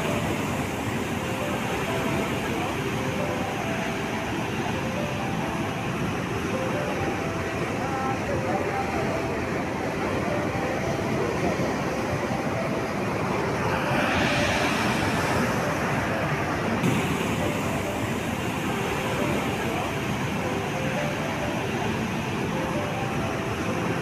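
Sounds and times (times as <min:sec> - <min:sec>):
sea waves surging and foaming: 0:00.0 - 0:24.0.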